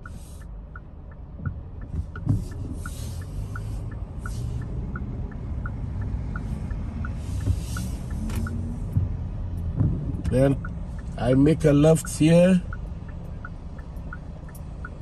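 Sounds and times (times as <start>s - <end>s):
car turn signal ticking: 0.0s - 15.0s.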